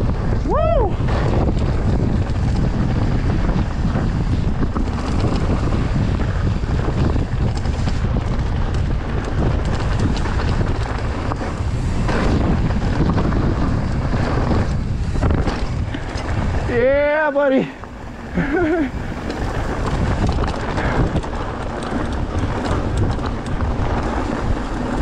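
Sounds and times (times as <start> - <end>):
bike rattling over bumps: 0.0 - 25.0
wind buffeting microphone: 0.0 - 25.0
tyres crunching on gravel: 1.1 - 25.0.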